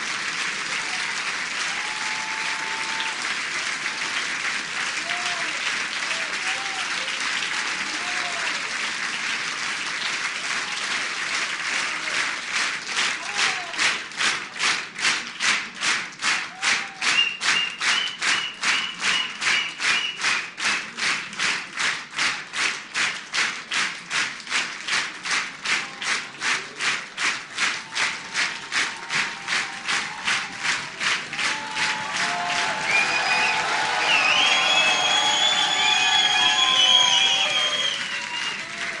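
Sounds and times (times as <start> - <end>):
audience rhythmic clapping: 0.0 - 39.0.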